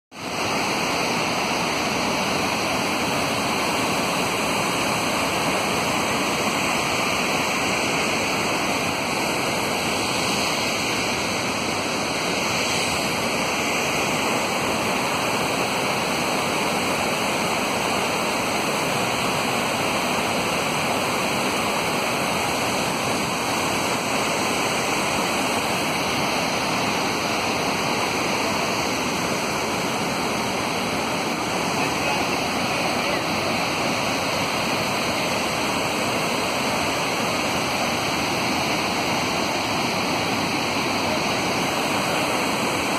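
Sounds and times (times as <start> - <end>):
waterfall rushing: 0.2 - 42.9.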